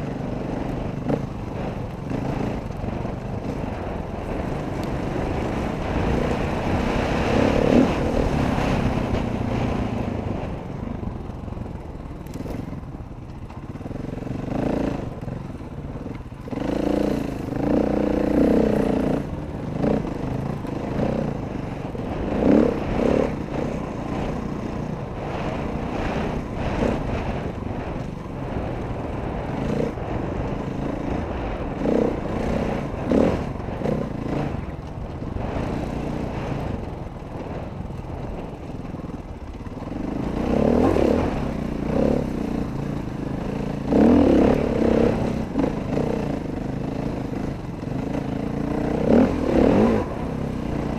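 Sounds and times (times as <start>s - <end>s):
dirt bike engine revving: 0.0s - 10.6s, 13.6s - 15.2s, 15.9s - 37.6s, 38.4s - 50.9s.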